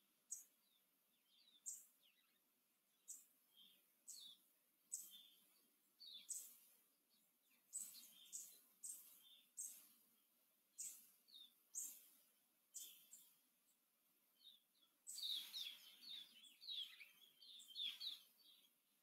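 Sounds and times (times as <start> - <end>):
faint high bird chirps: 0.2 - 10.1, 10.7 - 13.4, 14.4 - 19.0.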